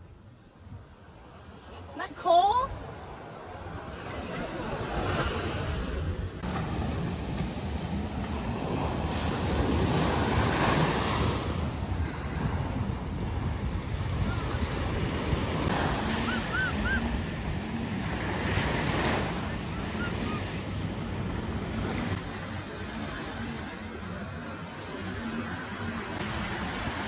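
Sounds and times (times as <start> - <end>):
faint jet ski engine: 0.0 - 27.0
waves washing on a beach: 0.8 - 27.0
wind buffeting microphone: 2.5 - 27.0.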